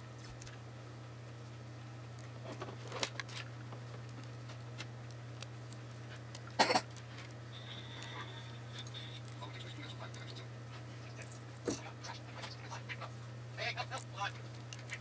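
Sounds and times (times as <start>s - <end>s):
tape crackling: 0.0s - 15.0s.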